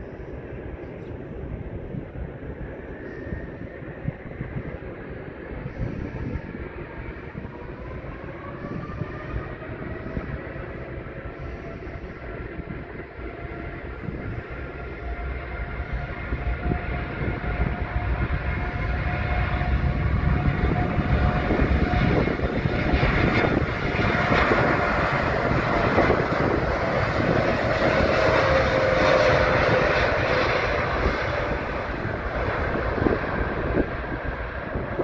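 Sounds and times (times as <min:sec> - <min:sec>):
jet engines at takeoff with whine: 0:00.0 - 0:35.0.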